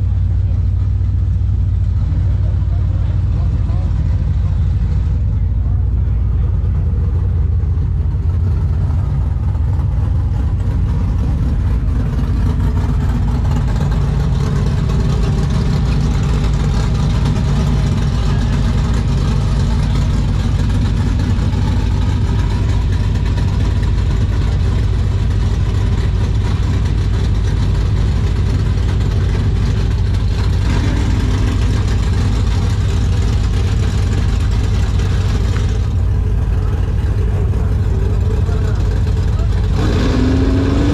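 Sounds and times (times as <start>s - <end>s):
truck engine running steadily: 0.0s - 40.9s.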